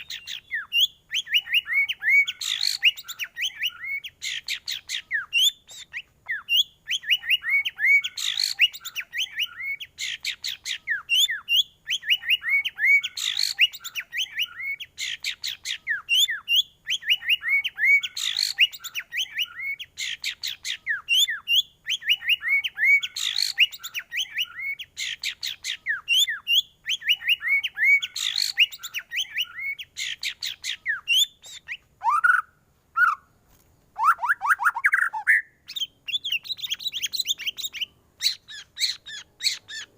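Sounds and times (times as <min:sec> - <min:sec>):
songbird whistling and chattering: 0:00.0 - 0:33.3, 0:34.0 - 0:39.9.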